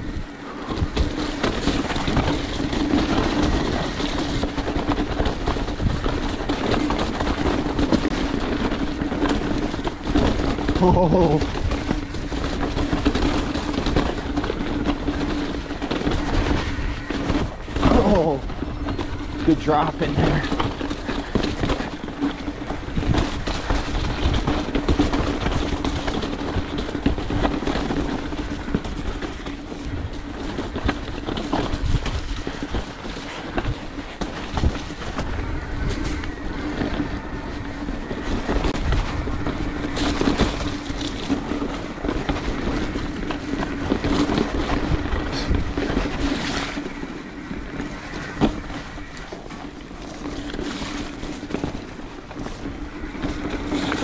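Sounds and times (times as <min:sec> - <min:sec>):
bike knocking and rattling: 0:00.0 - 0:54.0
rushing wind noise: 0:00.0 - 0:54.0
tyres crunching over dirt: 0:00.0 - 0:54.0.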